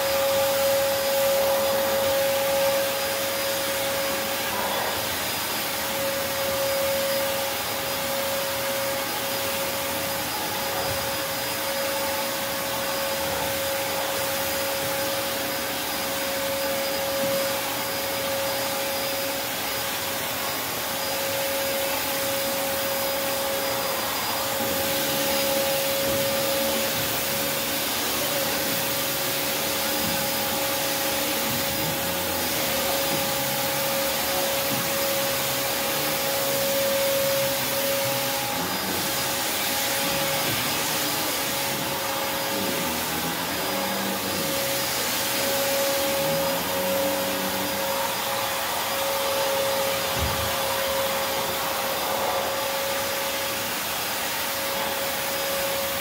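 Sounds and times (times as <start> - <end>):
backpack vacuum running: 0.0 - 56.0.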